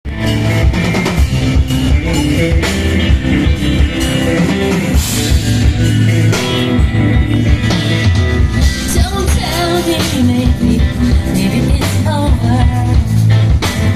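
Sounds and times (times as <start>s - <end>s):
bass guitar: 0.0s - 13.9s
drum kit: 0.0s - 13.9s
electric guitar: 0.0s - 13.9s.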